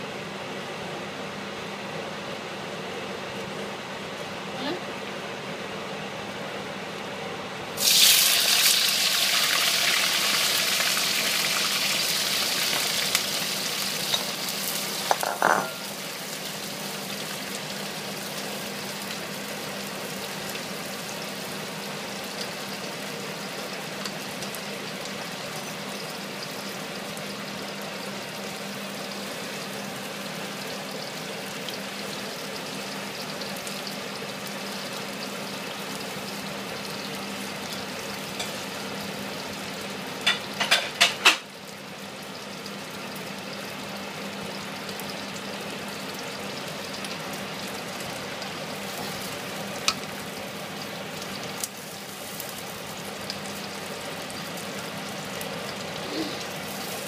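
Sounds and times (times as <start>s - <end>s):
prawns sizzling in hot oil: 7.8s - 57.0s.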